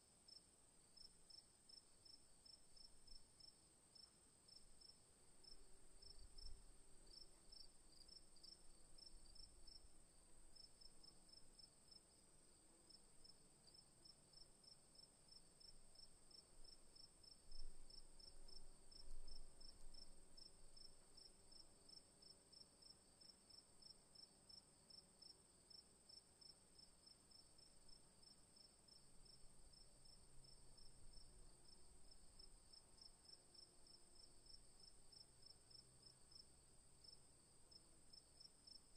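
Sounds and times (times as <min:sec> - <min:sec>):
crickets chirping: 0:01.0 - 0:12.2, 0:12.9 - 0:38.9.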